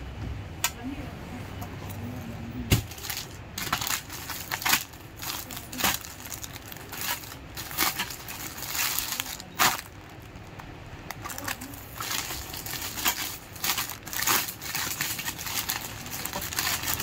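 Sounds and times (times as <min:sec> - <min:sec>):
plastic packaging crinkling: 0:02.8 - 0:17.0.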